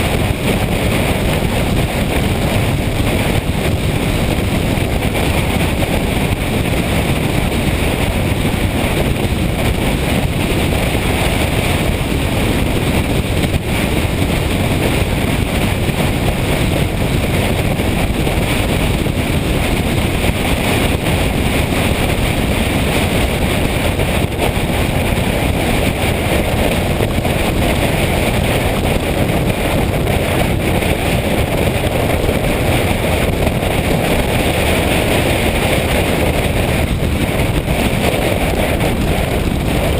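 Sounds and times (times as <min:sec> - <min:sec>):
motorcycle running: 0:00.0 - 0:39.9
wind buffeting microphone: 0:00.0 - 0:39.9.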